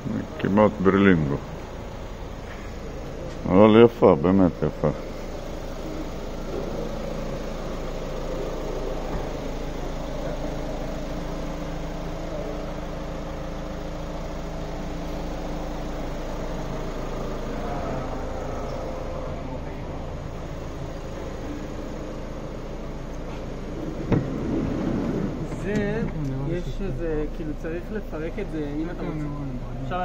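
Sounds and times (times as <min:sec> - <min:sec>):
van engine idling: 0:00.0 - 0:30.0.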